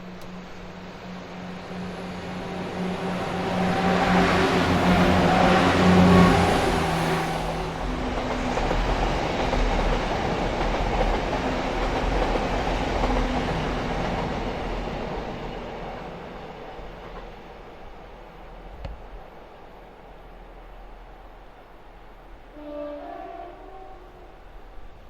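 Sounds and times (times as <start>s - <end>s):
train engine passing: 0.0s - 25.0s
train wheel and rail rumble: 0.0s - 25.0s.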